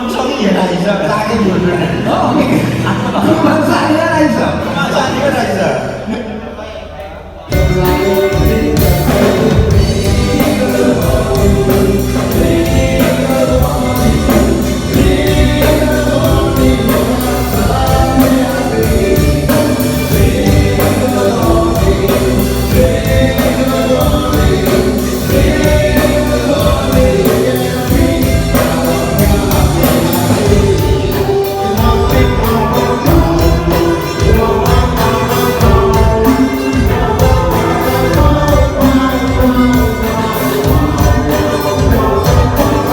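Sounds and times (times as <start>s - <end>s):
band music with group singing: 0.0s - 42.9s.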